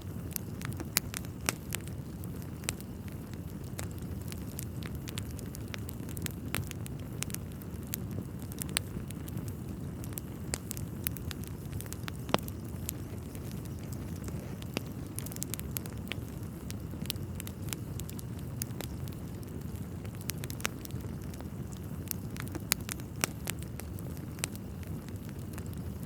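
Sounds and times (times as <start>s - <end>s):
burning logs crackling and popping: 0.0s - 26.0s
low rumble of flames: 0.0s - 26.0s.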